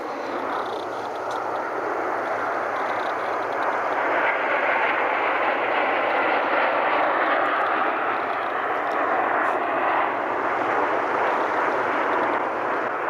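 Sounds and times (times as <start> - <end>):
aircraft engine rush: 0.0 - 13.0.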